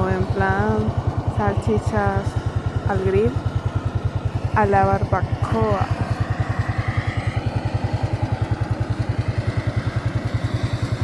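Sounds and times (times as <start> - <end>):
motor running with low throb: 0.0 - 11.0.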